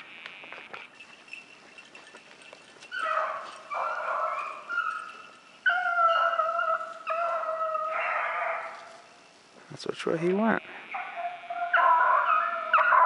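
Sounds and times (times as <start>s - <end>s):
hound baying: 0.9s - 9.4s, 10.8s - 13.0s.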